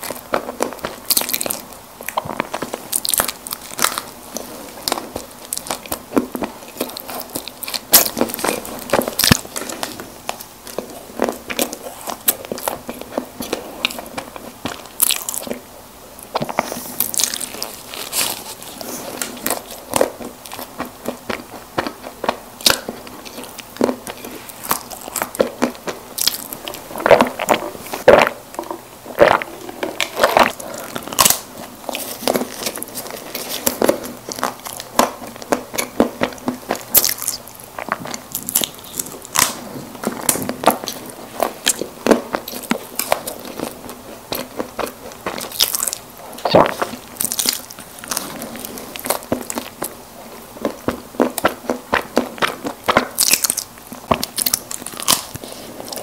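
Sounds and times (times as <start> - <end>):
chewing and biting snack cakes: 0.0 - 56.0.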